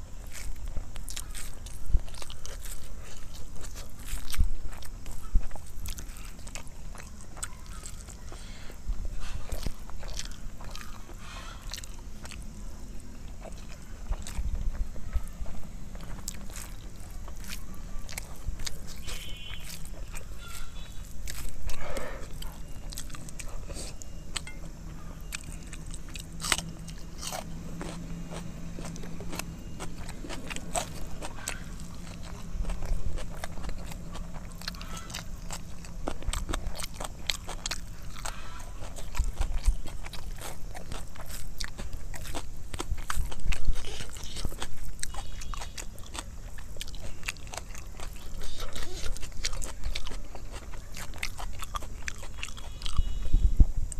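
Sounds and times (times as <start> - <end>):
chewing with wet mouth smacks: 0.1 - 53.9.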